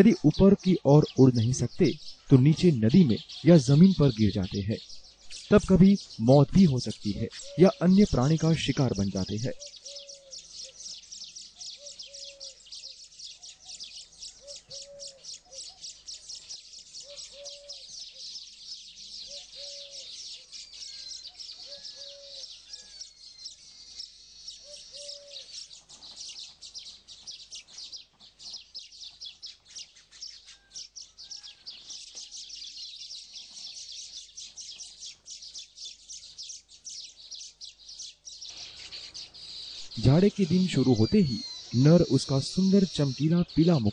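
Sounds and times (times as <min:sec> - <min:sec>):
birds chirping rapidly: 0:00.0 - 0:43.9.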